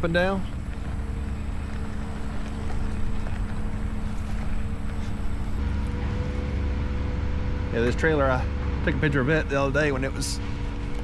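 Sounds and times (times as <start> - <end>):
motor droning: 0.4 - 11.0.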